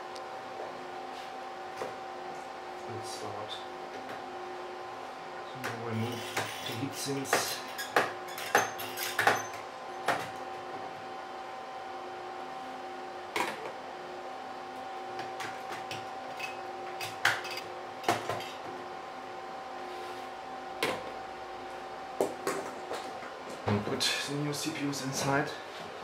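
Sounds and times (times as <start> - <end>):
steady whine of running equipment: 0.0 - 26.0.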